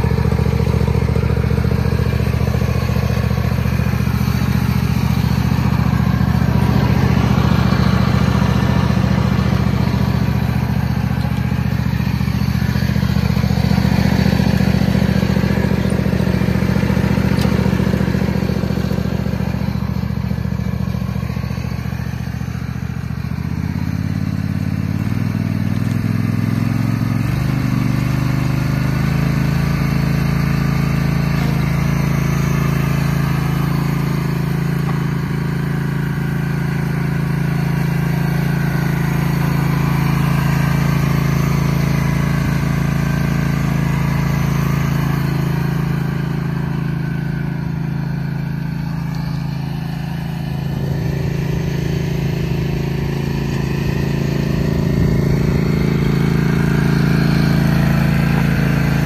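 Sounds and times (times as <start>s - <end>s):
riding lawn mower engine running: 0.0s - 59.0s.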